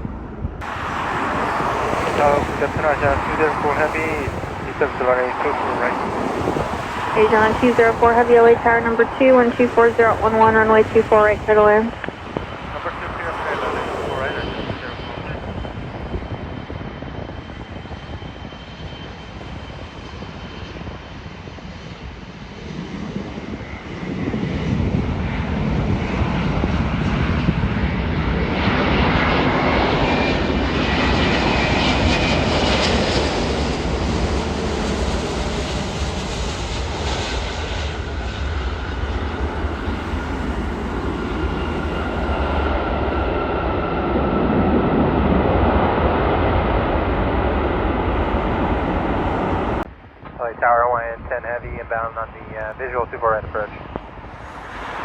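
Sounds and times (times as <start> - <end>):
thin high engine whine: 0.0 - 21.6, 29.2 - 55.0
jet airliner engines rushing: 0.0 - 55.0.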